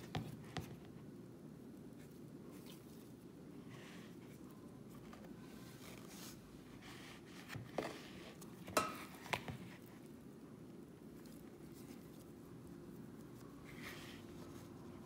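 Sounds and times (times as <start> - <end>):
hands kneading dough: 0.0 - 15.0
low steady hum: 0.0 - 15.0.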